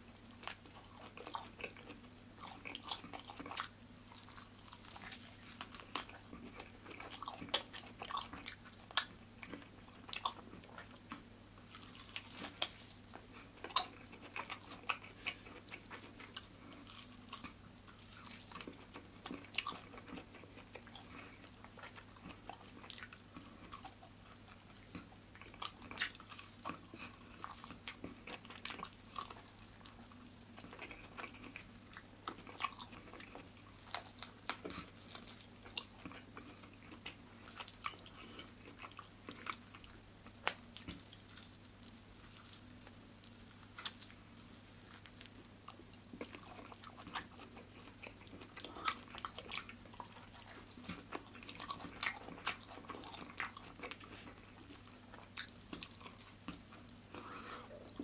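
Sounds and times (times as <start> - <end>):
faint low hum: 0.0 - 58.0
person chewing meat off bone: 0.2 - 58.0.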